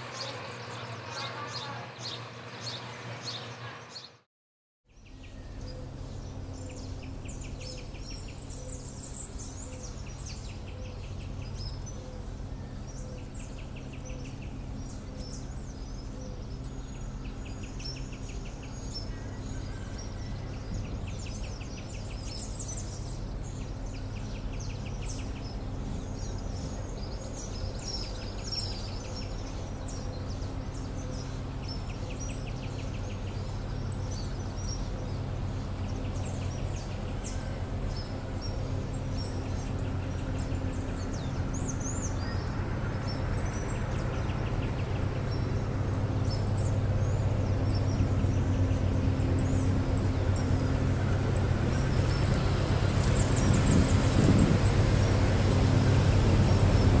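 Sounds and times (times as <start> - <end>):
birds calling and chirping: 0.0 - 4.2, 5.0 - 57.0
steady low rumble: 5.0 - 57.0.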